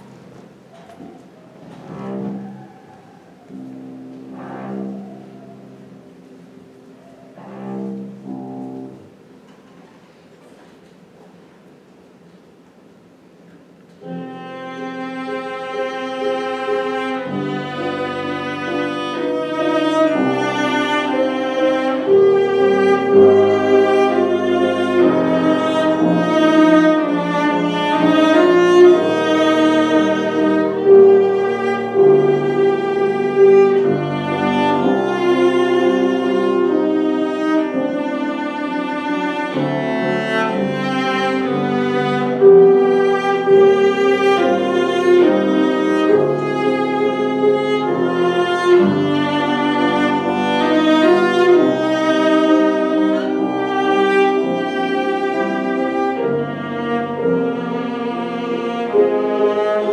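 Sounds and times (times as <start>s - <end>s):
piano accompaniment: 0.0s - 10.4s, 13.4s - 59.9s
cello playing bowed notes: 1.7s - 9.2s, 14.0s - 59.9s.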